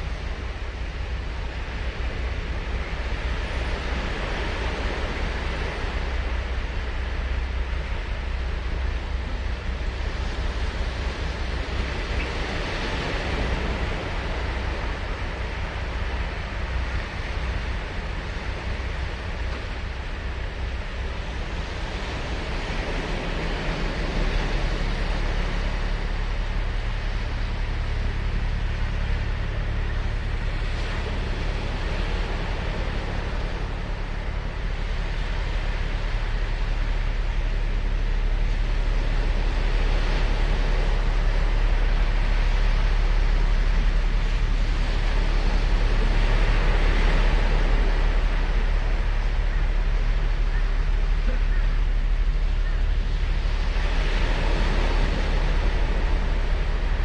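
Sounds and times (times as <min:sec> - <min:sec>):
ocean surf washing on beach: 0:00.0 - 0:57.0.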